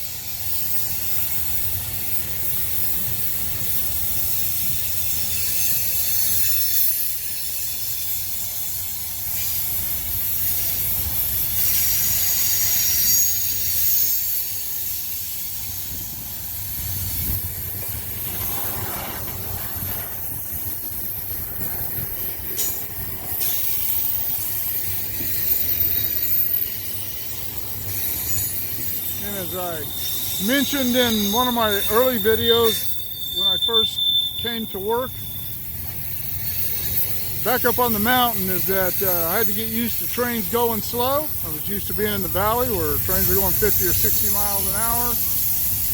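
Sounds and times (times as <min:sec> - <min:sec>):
high hiss and wheel squeal: 0:00.0 - 0:45.9
train wheels rumbling on rail: 0:00.0 - 0:45.9.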